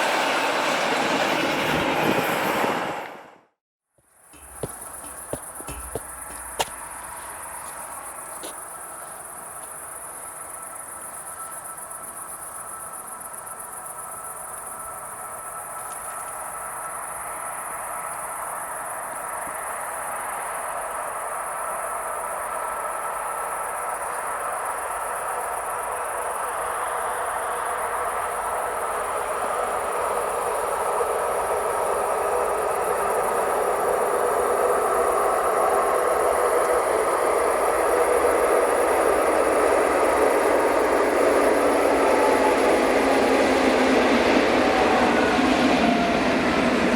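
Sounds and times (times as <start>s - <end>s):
train rumble and rail hiss: 0.0s - 3.5s, 4.1s - 46.9s
insects chirring: 4.4s - 46.9s.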